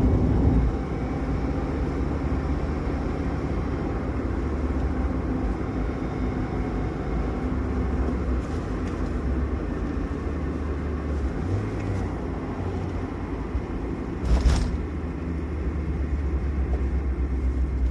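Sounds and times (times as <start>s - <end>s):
car engine and road rumble: 0.0s - 17.9s.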